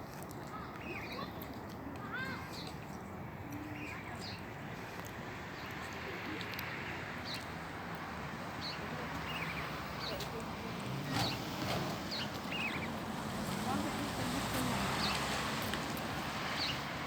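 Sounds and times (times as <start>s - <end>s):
birds chirping: 0.4s - 7.6s, 8.5s - 15.5s, 16.4s - 17.0s.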